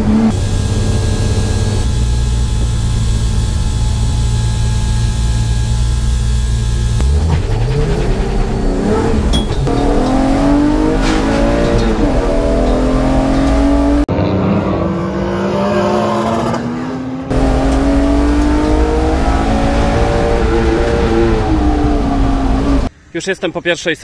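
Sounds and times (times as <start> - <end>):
car engine accelerating hard: 0.0 - 22.9.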